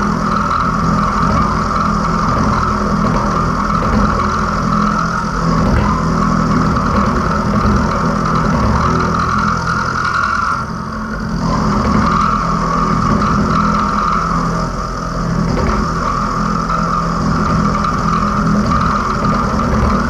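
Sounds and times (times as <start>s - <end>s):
cutter whine milling steel: 0.0s - 20.0s
motor and gear hum: 0.0s - 20.0s.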